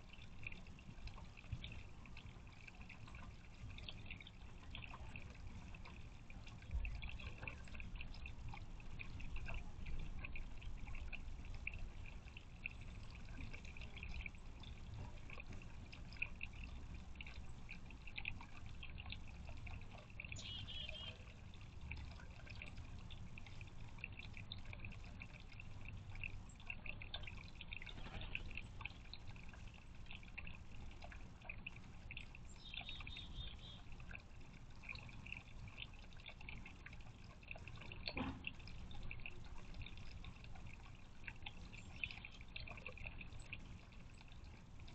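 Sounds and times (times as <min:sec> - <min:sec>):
fountain water trickling: 0:00.0 - 0:44.9.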